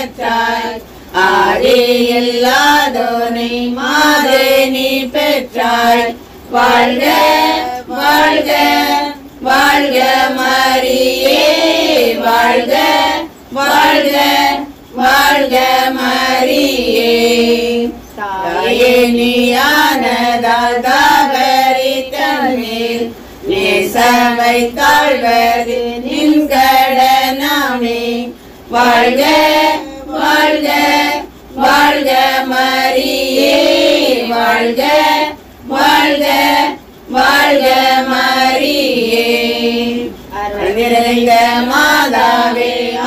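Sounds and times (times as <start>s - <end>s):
women singing a hymn: 0.0s - 43.0s.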